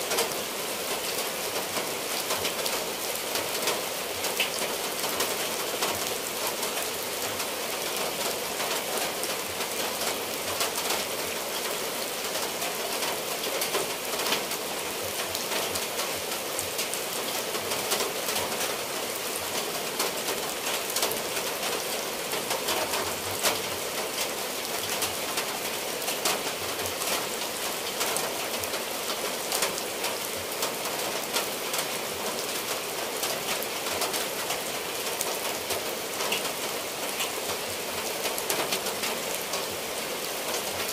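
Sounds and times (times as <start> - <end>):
heavy rain on roof tiles: 0.0 - 40.9.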